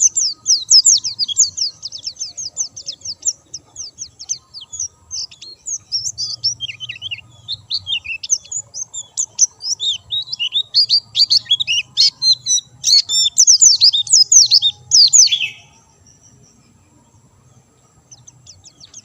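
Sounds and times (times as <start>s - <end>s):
bird singing rapid chirps: 0.0s - 19.0s.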